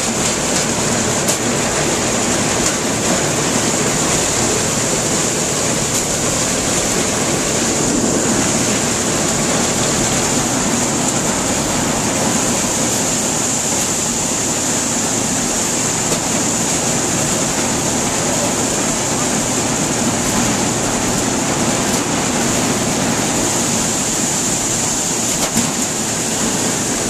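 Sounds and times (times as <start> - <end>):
corn moving through machine: 0.0 - 27.0
corn sheller machine running: 0.0 - 27.0
tractor engine: 0.0 - 27.0.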